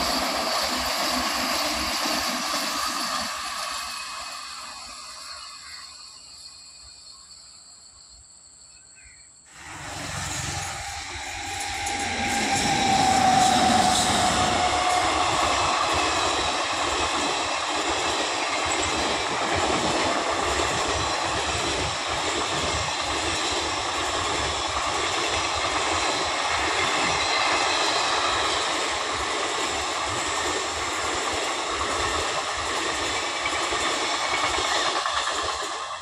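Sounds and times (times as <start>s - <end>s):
train wheels running on rails: 0.0s - 7.5s, 9.5s - 36.0s.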